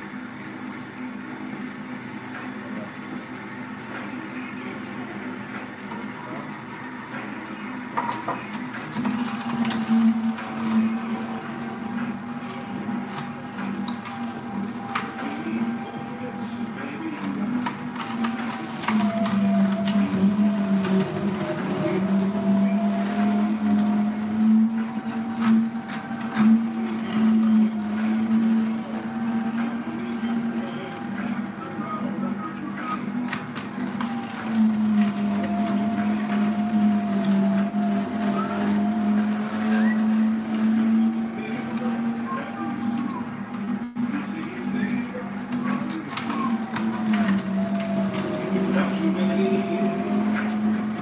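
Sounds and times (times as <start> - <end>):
juicer motor hum: 0.0 - 51.0.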